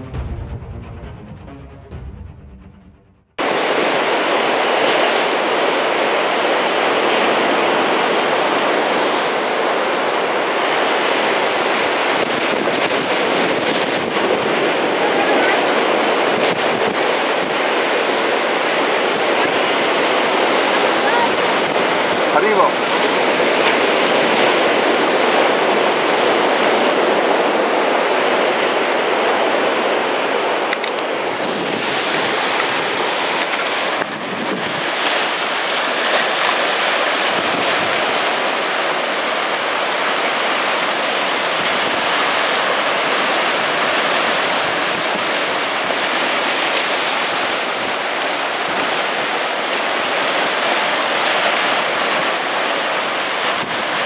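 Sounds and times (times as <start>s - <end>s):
sea surf washing over rocks: 3.4s - 54.0s.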